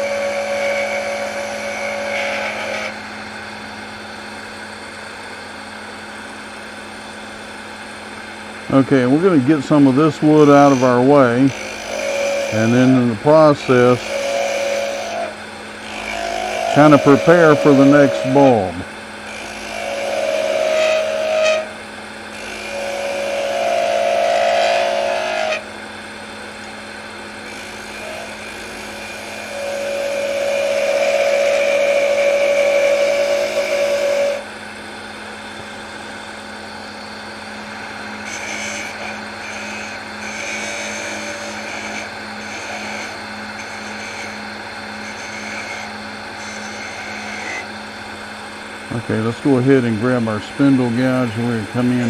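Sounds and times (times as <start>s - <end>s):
turning tool cutting wood: 0.0s - 52.0s
wood lathe humming: 0.0s - 52.0s.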